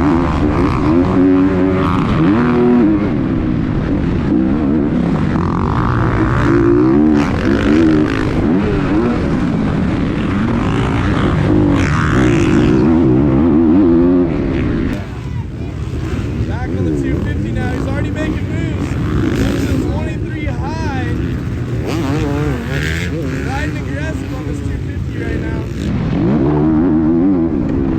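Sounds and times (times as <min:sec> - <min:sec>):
dirt bike engines revving: 0:00.0 - 0:27.9.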